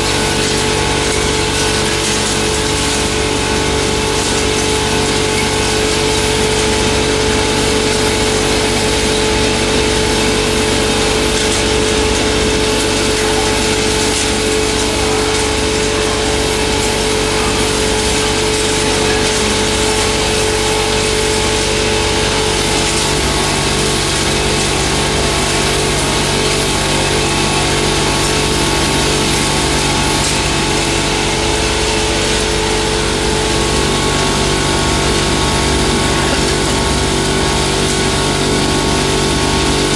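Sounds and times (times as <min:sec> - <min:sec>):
grinding mill rushing noise: 0:00.0 - 0:39.9.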